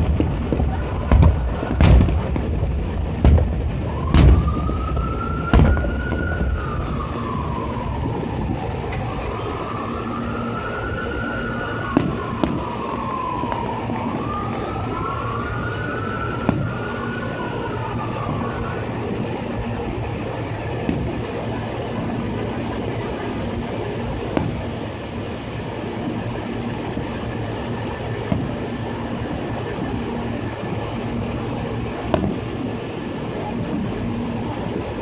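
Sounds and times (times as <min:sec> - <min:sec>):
emergency siren wailing: 0:00.0 - 0:35.0
fireworks booming: 0:00.0 - 0:35.0.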